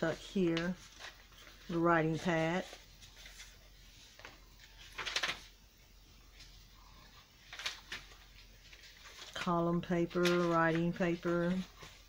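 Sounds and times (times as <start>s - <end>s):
paper pages turning: 0.1s - 5.6s, 6.3s - 12.0s.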